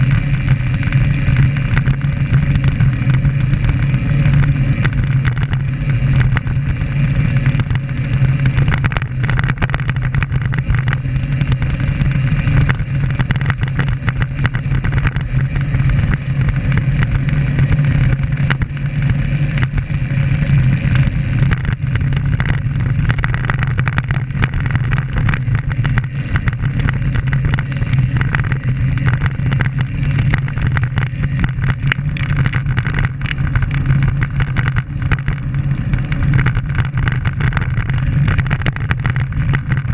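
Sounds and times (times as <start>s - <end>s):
bicycle tyres rumbling on asphalt: 0.0s - 39.9s
steady wind: 0.0s - 39.9s.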